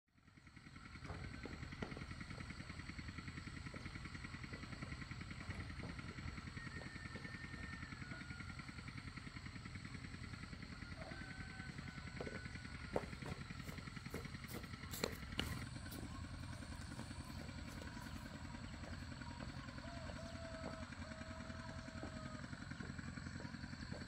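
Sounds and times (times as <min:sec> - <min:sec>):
small engine running: 0:00.1 - 0:24.0.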